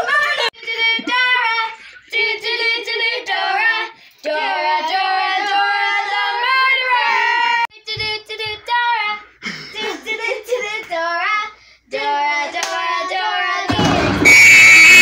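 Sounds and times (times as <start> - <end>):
child singing: 0.4 - 14.1.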